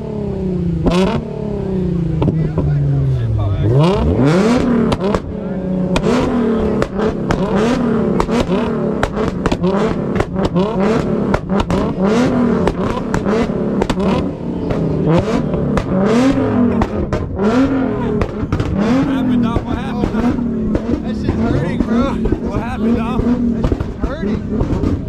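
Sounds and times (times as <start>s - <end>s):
car engine revving: 0.0s - 25.0s
exhaust pops and crackles: 2.0s - 25.0s.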